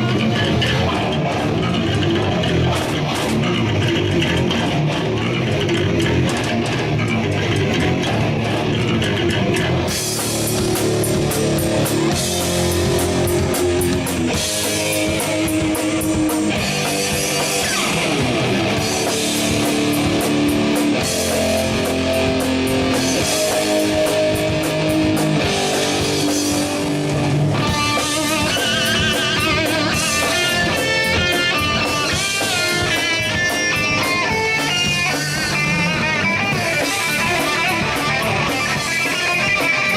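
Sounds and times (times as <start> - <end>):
lead guitar with bent notes: 0.0 - 39.9
rock band playing: 0.0 - 39.9.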